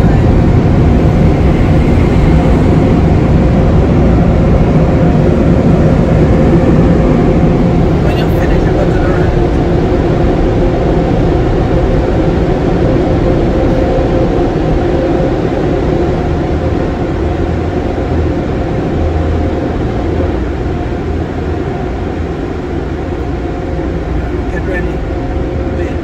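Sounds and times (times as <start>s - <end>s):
car engine: 0.0s - 26.0s
road noise: 0.0s - 26.0s.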